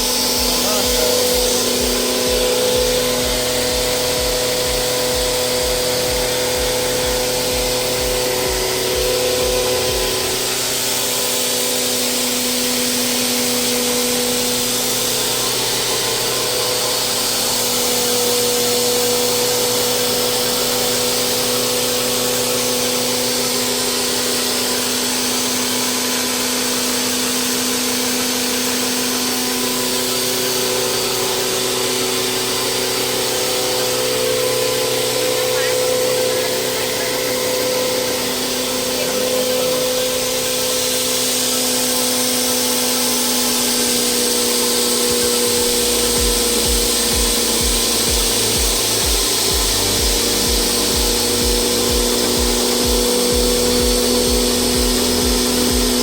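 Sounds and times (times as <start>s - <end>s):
low rhythmic throb: 0.0s - 56.0s
pulverizer machine whir: 0.0s - 56.0s.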